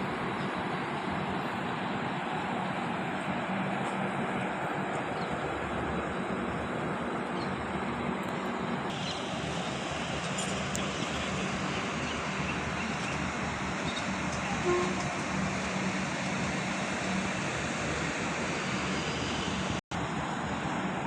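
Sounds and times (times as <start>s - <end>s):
train running: 0.0s - 21.0s.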